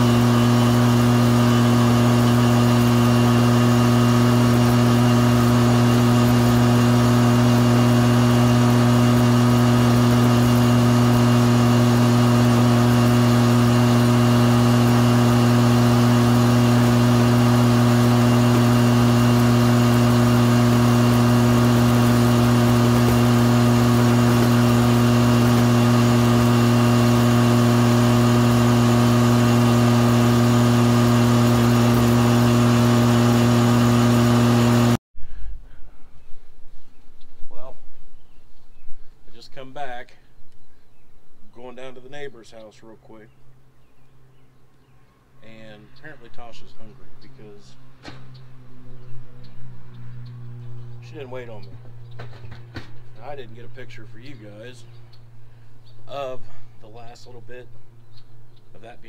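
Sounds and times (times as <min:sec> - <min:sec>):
riding lawn mower engine: 0:00.0 - 0:35.0, 0:45.5 - 0:59.0.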